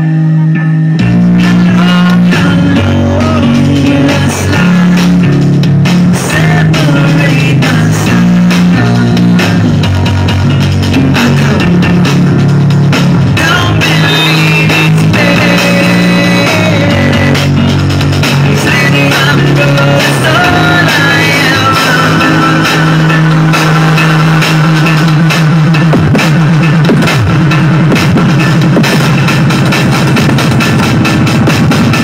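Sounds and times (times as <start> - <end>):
loud rock music: 0.0 - 32.0.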